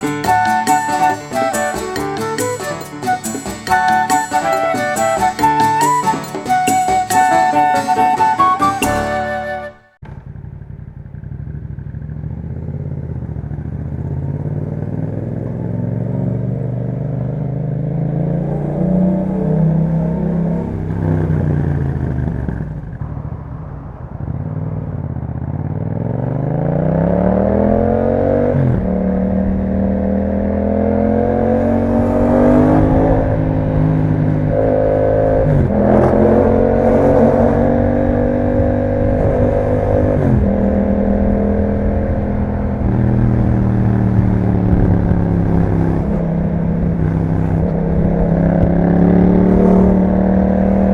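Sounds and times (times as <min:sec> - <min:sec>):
motorcycle engine accelerating: 0:08.8 - 0:50.9.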